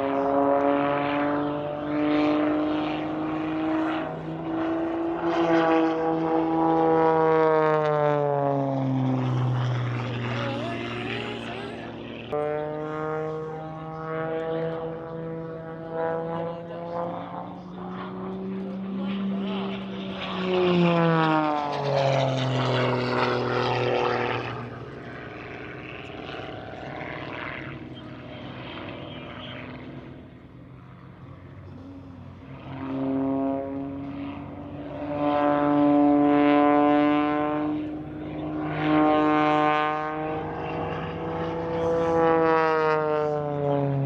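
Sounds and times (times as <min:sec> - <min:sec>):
propeller airplane engine drone: 0:00.0 - 0:44.0.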